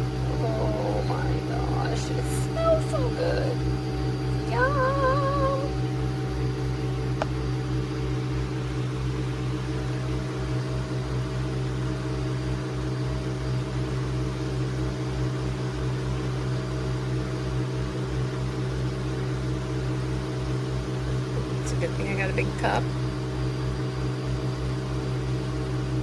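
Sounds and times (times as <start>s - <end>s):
coffee machine humming: 0.0s - 26.0s.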